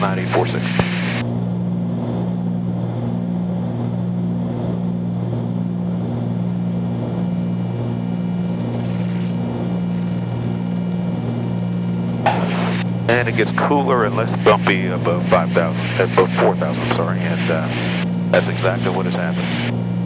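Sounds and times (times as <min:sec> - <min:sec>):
propeller plane cockpit drone: 0:00.0 - 0:20.0.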